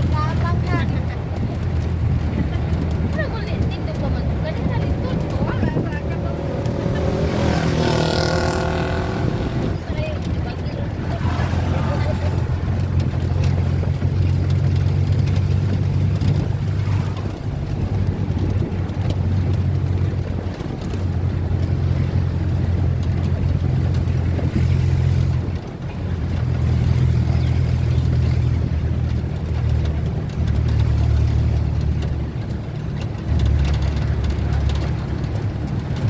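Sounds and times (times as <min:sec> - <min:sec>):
road vehicle rumble: 0:00.0 - 0:36.0.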